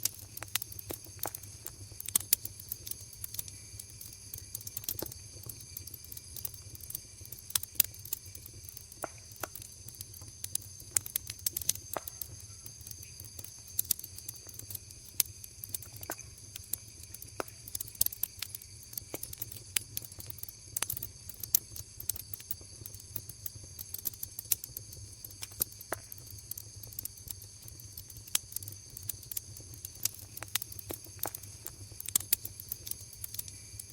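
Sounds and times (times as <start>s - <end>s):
high-pitched insect chorus: 0.0s - 33.9s
wood fire crackling and popping: 0.0s - 33.9s.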